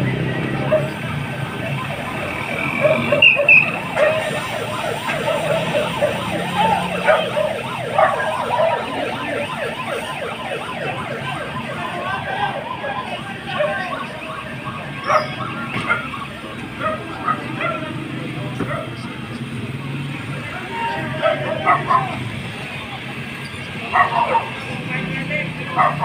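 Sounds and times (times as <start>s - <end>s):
busy street noise: 0.0s - 26.0s
emergency vehicle siren: 0.0s - 26.0s.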